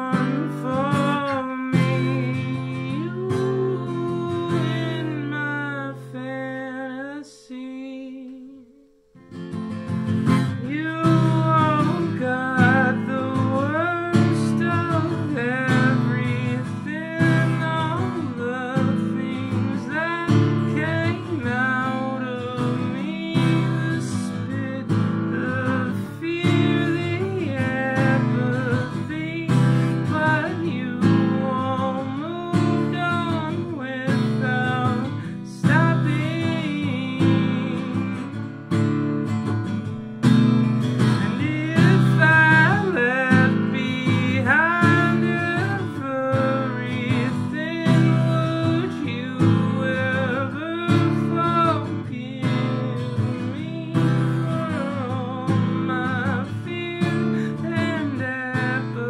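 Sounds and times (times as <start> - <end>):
man singing: 0.0 - 9.0, 9.9 - 59.0
acoustic guitar strumming: 0.0 - 59.0.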